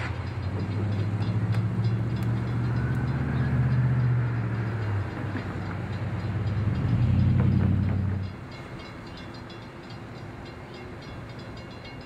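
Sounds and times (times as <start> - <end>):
train engine drone: 0.0 - 12.0.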